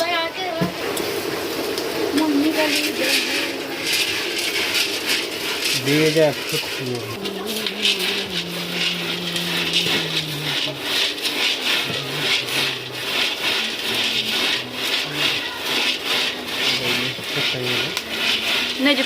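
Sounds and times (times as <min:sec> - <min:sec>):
kernels scraped around a pan: 0:01.6 - 0:19.0.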